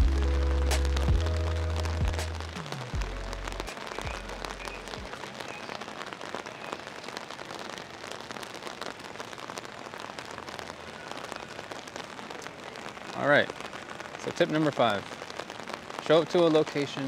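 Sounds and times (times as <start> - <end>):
heavy rain on paving stones: 0.0 - 17.0.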